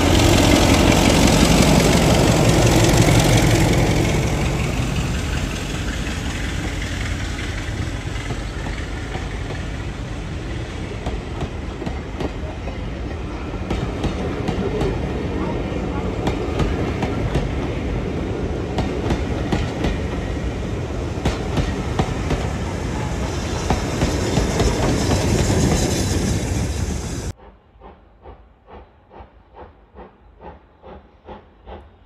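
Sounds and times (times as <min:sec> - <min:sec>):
diesel locomotive engine passing: 0:00.0 - 0:32.0.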